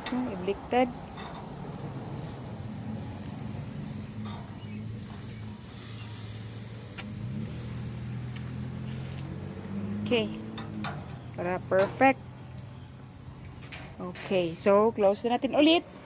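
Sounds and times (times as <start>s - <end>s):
engine idling: 0.0s - 14.6s.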